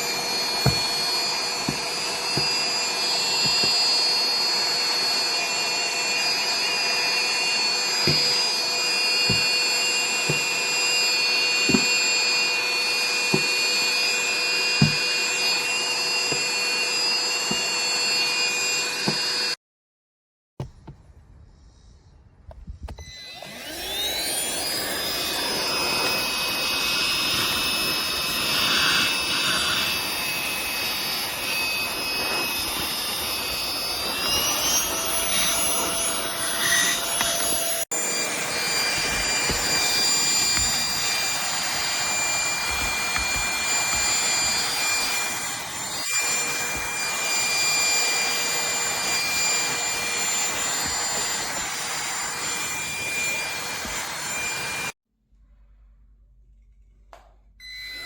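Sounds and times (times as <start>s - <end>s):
handheld vacuum motor whine: 0.0s - 19.6s, 22.7s - 55.0s, 57.6s - 58.0s.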